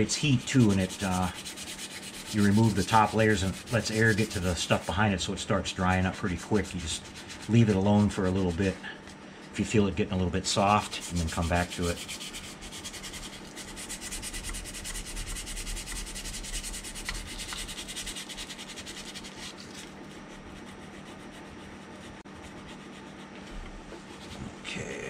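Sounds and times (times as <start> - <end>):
sandpaper rubbing on plastic: 0.0 - 5.2, 5.8 - 8.8, 10.5 - 24.5.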